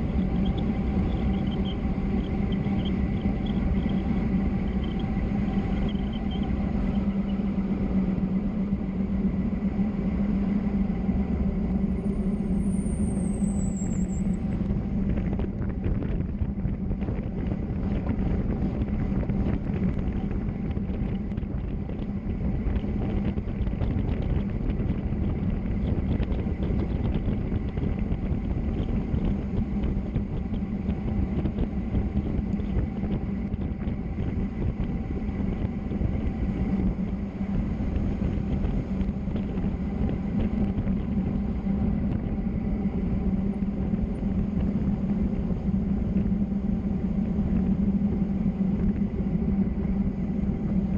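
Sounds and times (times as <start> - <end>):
road and wind noise: 0.0 - 50.9.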